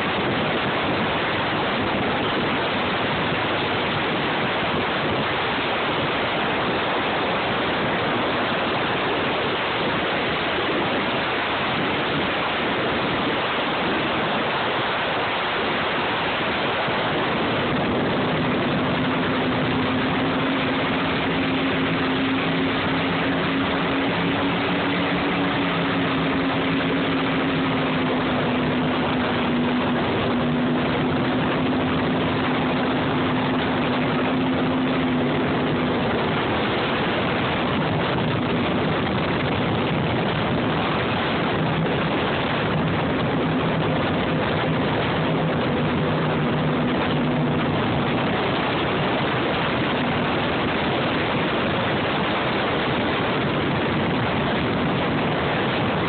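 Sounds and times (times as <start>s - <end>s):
boat engine drone: 0.0s - 56.0s
rush of wind and water: 0.0s - 56.0s.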